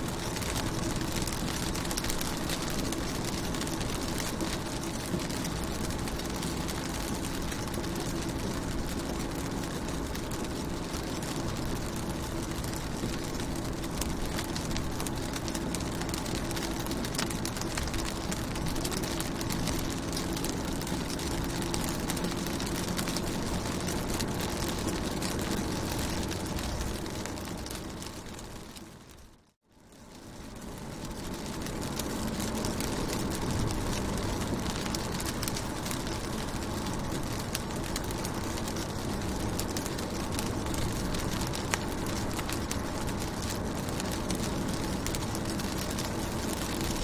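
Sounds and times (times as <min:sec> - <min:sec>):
low steady hum: 0:00.0 - 0:47.0
rain on a car: 0:00.0 - 0:47.0.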